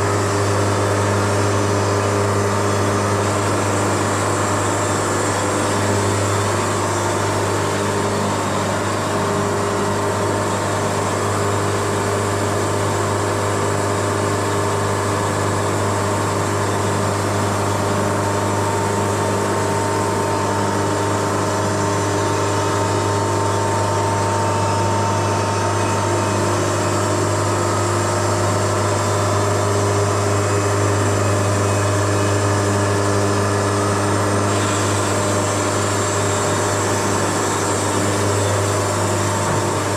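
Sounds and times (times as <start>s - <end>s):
sawmill engine hum: 0.0s - 39.9s.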